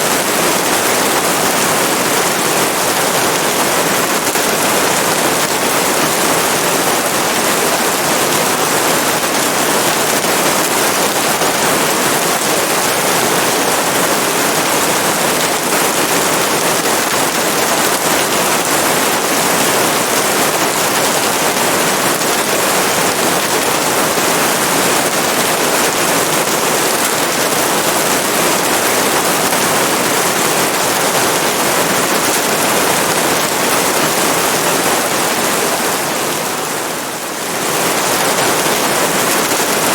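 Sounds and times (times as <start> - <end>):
heavy steady rain: 0.0 - 39.9.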